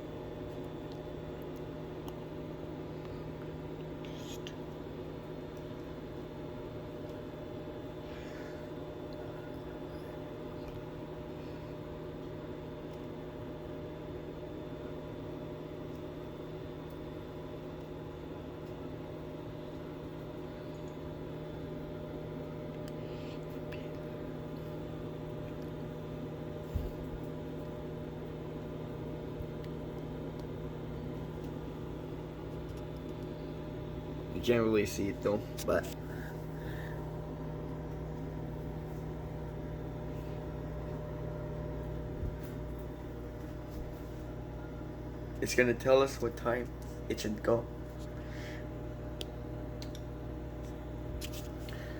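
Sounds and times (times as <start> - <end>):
microwave oven humming: 0.0 - 51.9.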